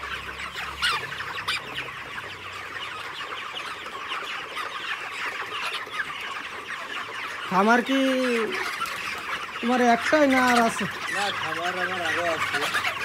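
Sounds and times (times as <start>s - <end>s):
flock of chickens peeping and clucking: 0.0s - 13.0s.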